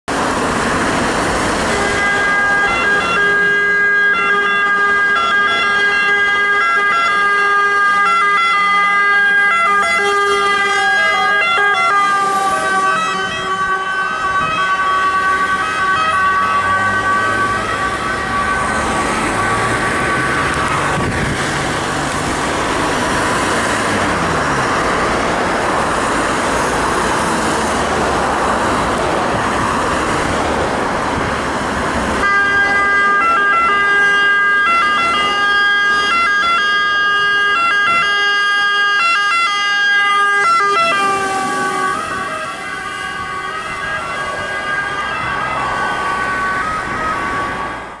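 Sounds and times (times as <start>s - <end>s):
road noise: 0.0s - 48.0s
truck engine: 0.1s - 48.0s
two-tone sirens: 0.1s - 48.0s.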